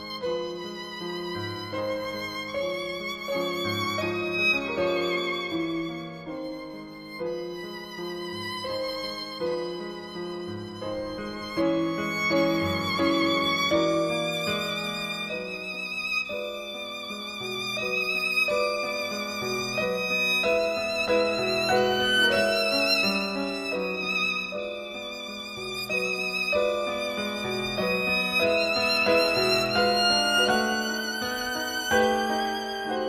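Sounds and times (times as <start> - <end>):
violin playing a slow melody: 0.0 - 33.0.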